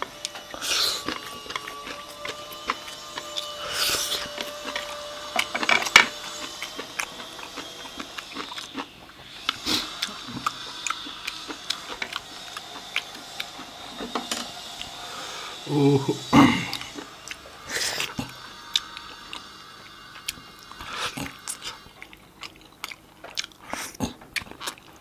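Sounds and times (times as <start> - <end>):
chewing and lip-smacking: 0.0 - 15.0, 16.7 - 25.0.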